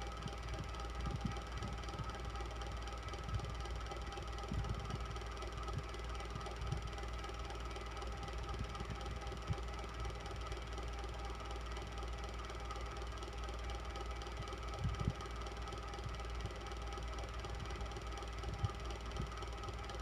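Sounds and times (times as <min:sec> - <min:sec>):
electric fan humming: 0:00.0 - 0:20.0.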